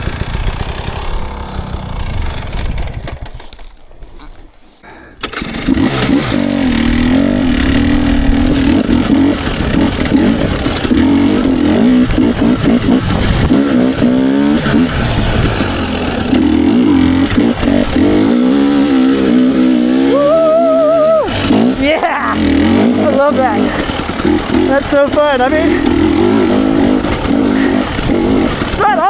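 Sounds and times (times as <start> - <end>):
dirt bike engine revving: 0.0 - 3.5, 5.2 - 29.0.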